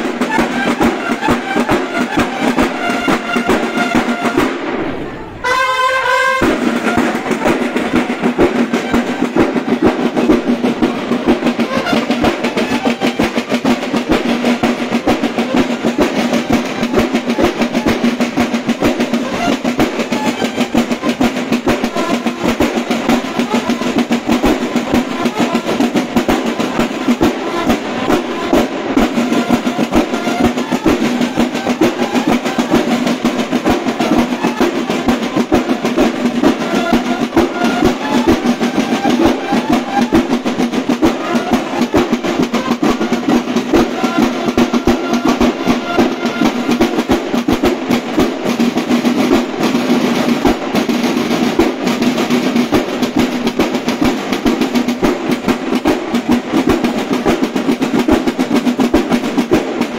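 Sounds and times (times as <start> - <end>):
snare drums playing rolls: 0.0 - 59.9.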